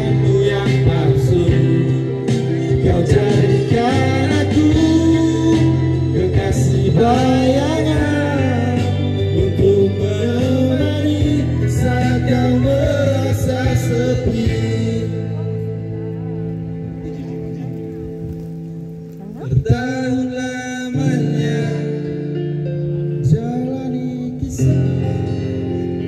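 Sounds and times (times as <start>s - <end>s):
man singing into a microphone: 0.0s - 16.5s, 19.3s - 26.0s
guitar song accompaniment: 0.0s - 26.0s.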